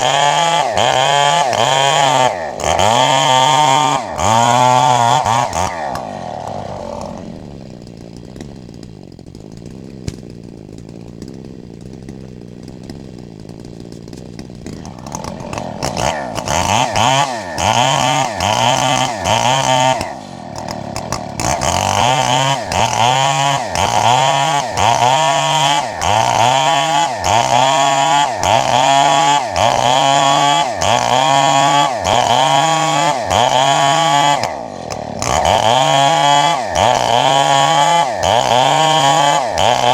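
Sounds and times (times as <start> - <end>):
chain cutting wood: 0.0 - 39.9
chainsaw idling and revving: 0.0 - 39.9.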